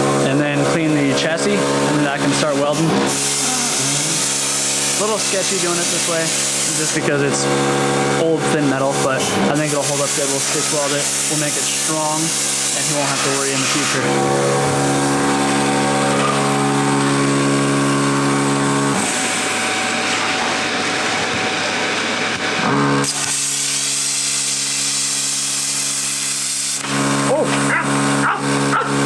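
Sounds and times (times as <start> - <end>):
angle grinder cutting sheet metal: 0.0 - 29.0.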